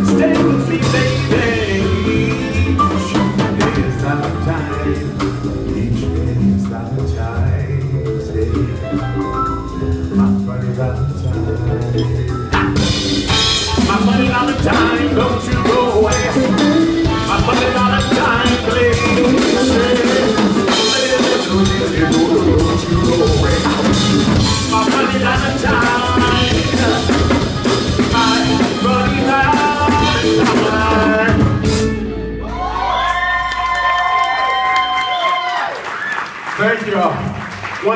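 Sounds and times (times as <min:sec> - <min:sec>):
busy drumming: 0:00.0 - 0:37.9
live band playing: 0:00.0 - 0:37.9.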